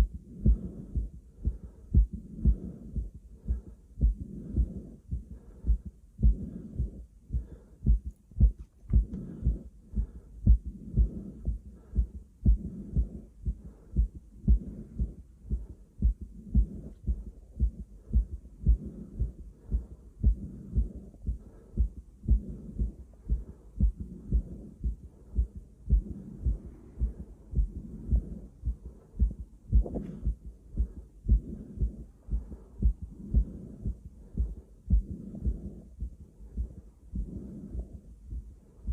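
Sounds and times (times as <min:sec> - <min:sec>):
heartbeat through stethoscope: 0:00.0 - 0:38.9
heavy breathing: 0:00.0 - 0:38.9.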